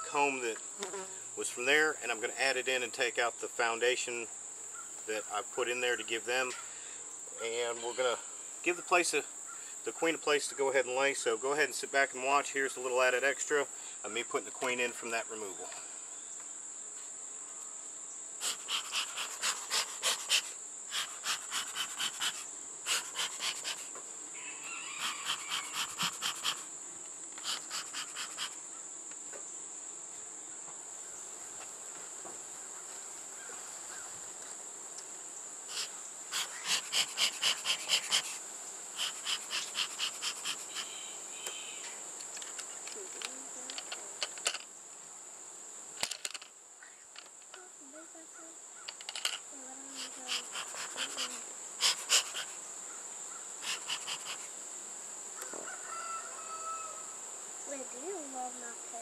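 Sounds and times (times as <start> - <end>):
insects high-pitched drone: 0.0 - 59.0
insects rapid chirps: 0.0 - 59.0.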